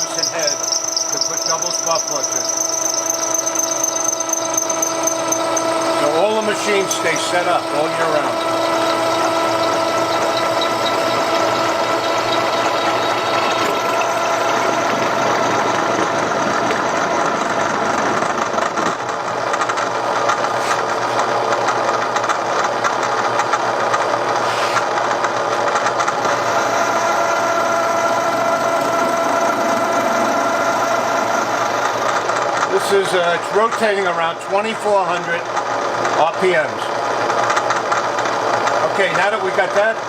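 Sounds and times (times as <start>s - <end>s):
metal cutting noise: 0.0s - 23.5s, 24.3s - 39.9s
milling machine spindle whine: 0.0s - 40.0s.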